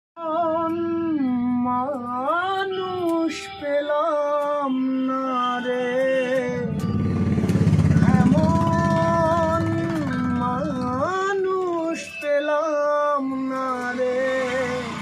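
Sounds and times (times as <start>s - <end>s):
man singing unaccompanied: 0.2s - 7.0s, 7.8s - 15.0s.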